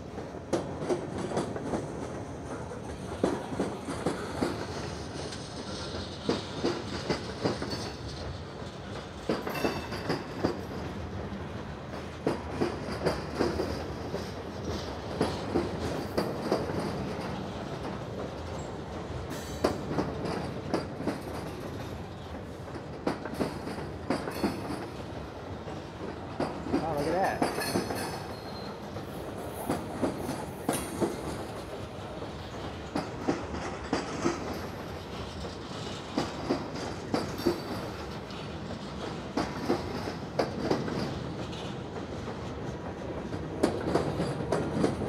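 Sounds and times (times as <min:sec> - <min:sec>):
steel wheels rumbling on rail: 0:00.0 - 0:45.0
wheels clacking over rail joints: 0:00.1 - 0:45.0.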